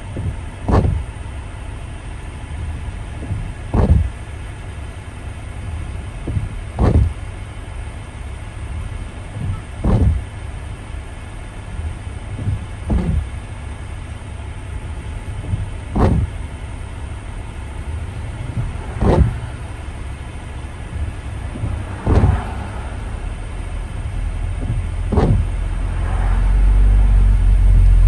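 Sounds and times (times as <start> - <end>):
tyres and engine rumbling on wet road: 0.0 - 28.0
windshield wipers swishing: 0.0 - 28.0.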